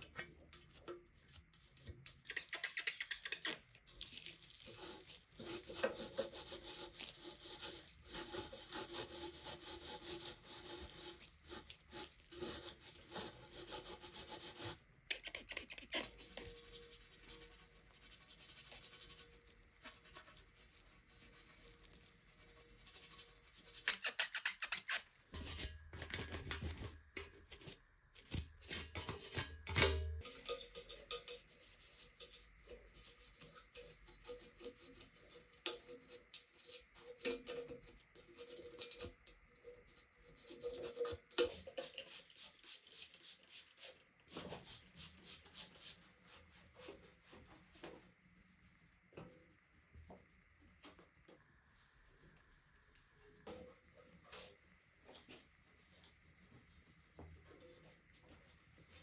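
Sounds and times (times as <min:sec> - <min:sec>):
rubbing on hard surface: 0:00.0 - 0:27.8, 0:30.2 - 0:39.2, 0:39.8 - 0:50.5, 0:53.4 - 0:59.0.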